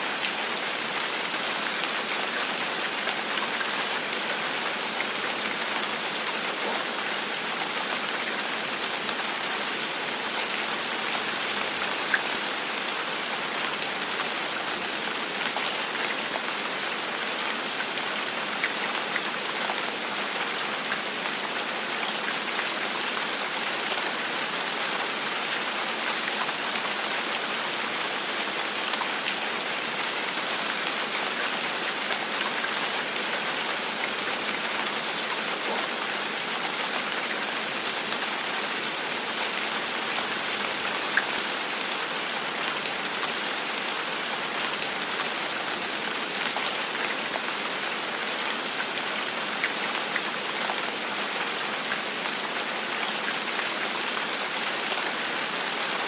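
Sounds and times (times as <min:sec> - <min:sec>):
gentle rain on a hard surface: 0:00.0 - 0:56.0.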